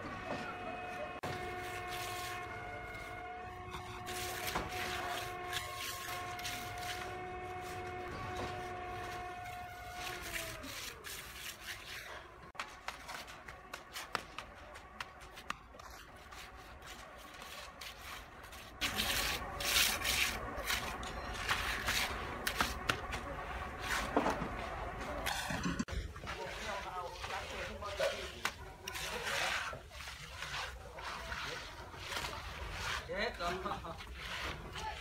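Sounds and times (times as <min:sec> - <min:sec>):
scraping and rubbing on concrete: 0:01.0 - 0:35.0.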